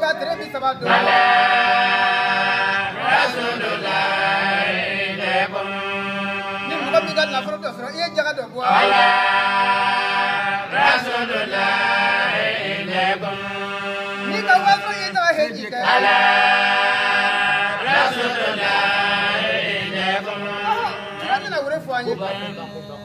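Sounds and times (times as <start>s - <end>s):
man chanting devotional verse: 0.0s - 23.0s.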